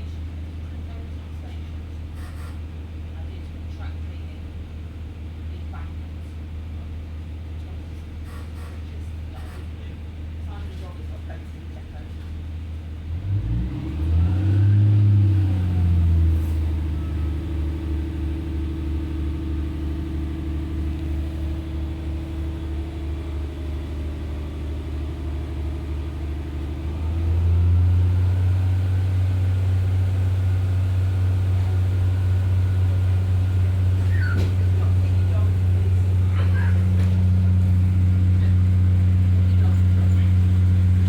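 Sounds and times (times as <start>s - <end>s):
diesel railbus engine: 0.0s - 41.0s.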